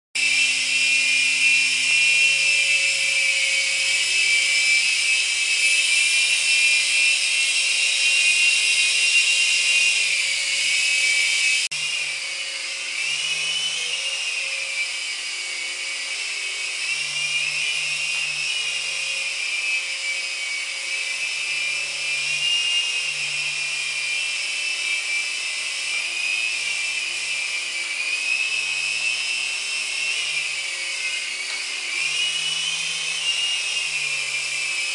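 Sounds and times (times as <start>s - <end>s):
rc helicopter motor whine: 0.2s - 34.9s.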